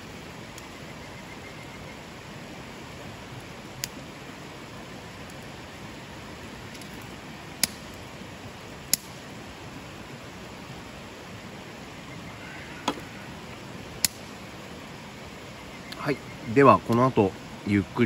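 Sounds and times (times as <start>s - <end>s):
river flowing over stones: 0.0s - 18.0s.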